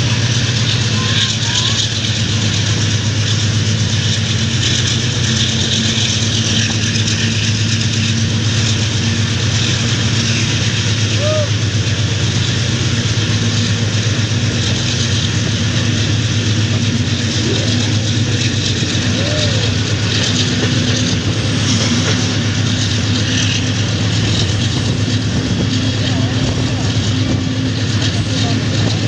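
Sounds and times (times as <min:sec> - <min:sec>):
locomotive engine drone: 0:00.0 - 0:29.0
rolling wheel noise: 0:00.0 - 0:29.0
wind: 0:00.0 - 0:29.0.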